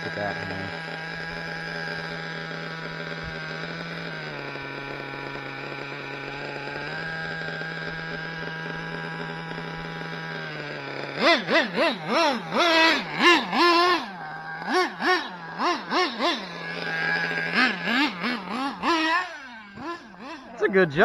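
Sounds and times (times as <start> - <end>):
engine throttle blips: 0.0 - 21.0
model truck engine idling: 0.0 - 21.0.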